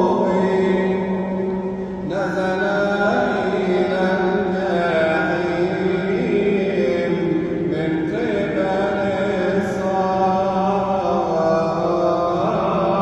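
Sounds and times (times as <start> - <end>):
man chanting a hymn: 0.0 - 13.0
steady low drone: 0.0 - 13.0.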